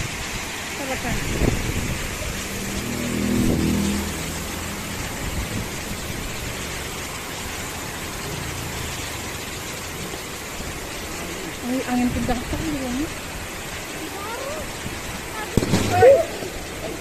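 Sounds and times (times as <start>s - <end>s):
heavy wind-driven rain: 0.0s - 17.0s.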